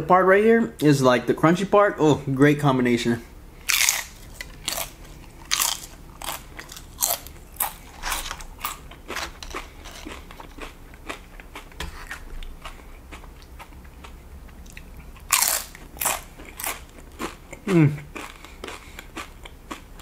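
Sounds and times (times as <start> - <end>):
chewing crisp tortilla chips: 3.6 - 20.0.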